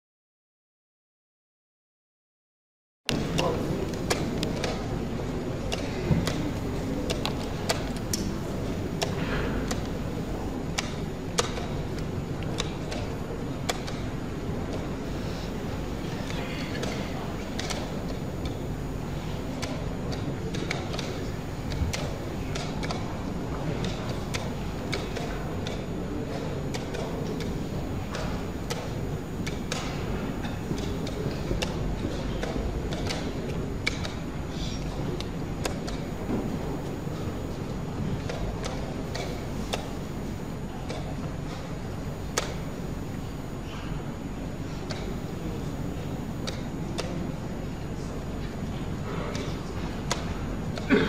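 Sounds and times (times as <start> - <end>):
low room hum: 3.1 - 51.0.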